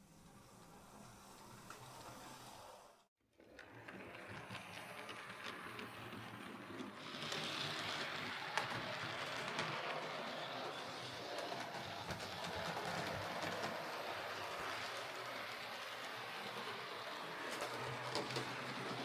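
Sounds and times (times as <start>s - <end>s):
model train motor whirring: 0.2s - 19.0s.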